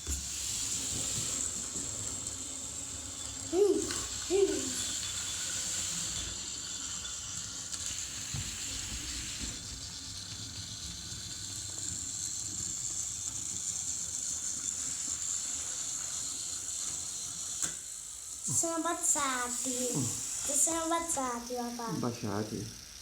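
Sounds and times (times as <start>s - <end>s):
toy train motors whirring: 0.0s - 23.0s.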